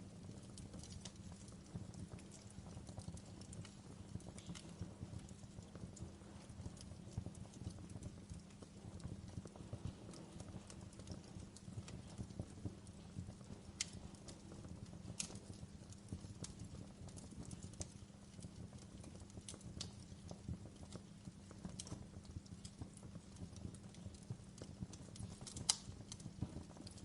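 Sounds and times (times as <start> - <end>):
wood fire crackling: 0.0 - 27.0
sharp pops of fire: 0.2 - 27.0.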